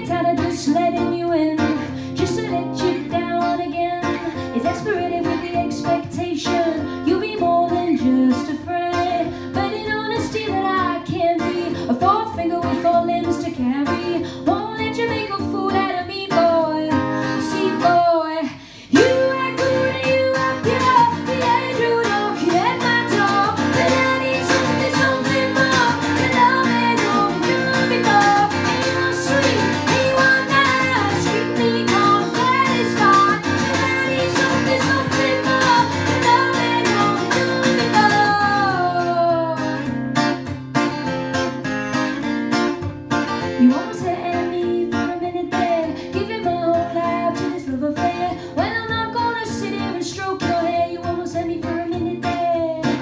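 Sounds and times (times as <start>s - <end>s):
woman singing: 0.0s - 40.4s, 43.4s - 53.0s
acoustic guitar strumming: 0.0s - 53.0s.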